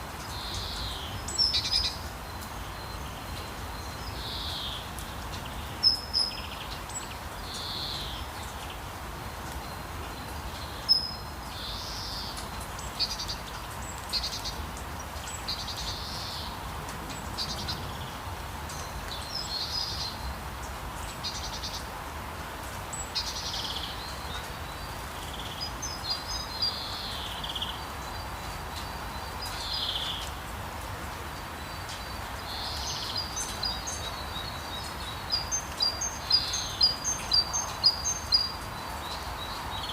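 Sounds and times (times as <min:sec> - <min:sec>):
steady rain: 0:00.0 - 0:39.9
birds chirping and trilling: 0:00.2 - 0:22.0, 0:22.8 - 0:30.5, 0:31.4 - 0:39.9.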